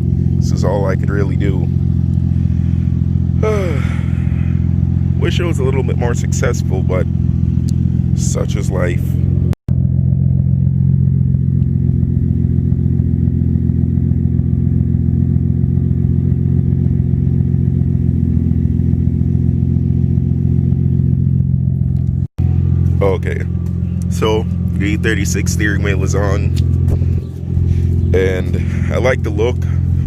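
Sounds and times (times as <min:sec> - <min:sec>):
low mechanical drone: 0:00.0 - 0:30.0.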